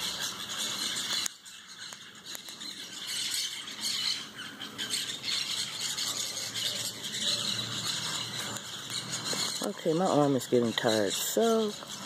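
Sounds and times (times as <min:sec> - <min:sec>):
parrots squawking: 0:00.0 - 0:12.0.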